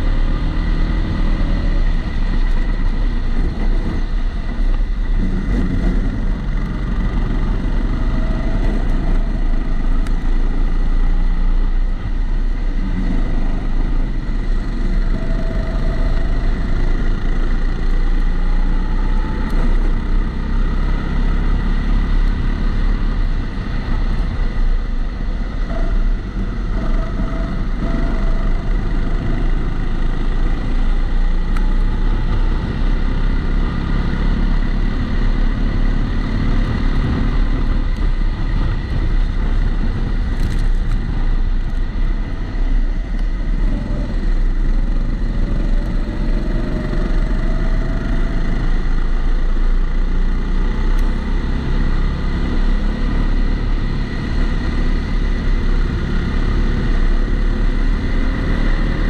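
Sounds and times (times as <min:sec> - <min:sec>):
high whine: 0:00.0 - 0:50.3
kart engine running: 0:00.0 - 0:59.0.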